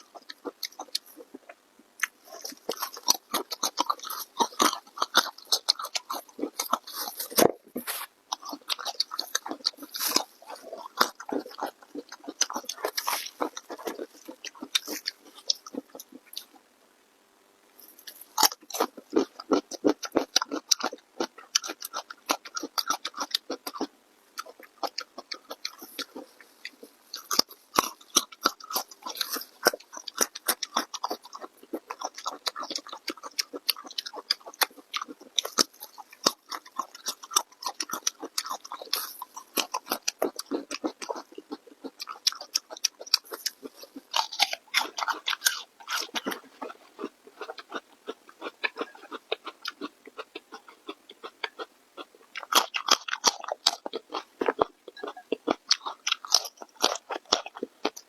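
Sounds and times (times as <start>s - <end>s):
crunchy chewing: 0.0s - 16.7s, 17.7s - 58.0s.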